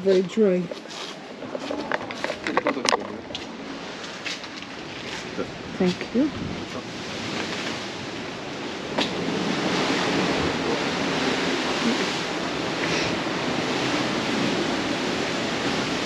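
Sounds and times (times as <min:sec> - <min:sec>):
ocean surf washing: 0:00.0 - 0:16.0.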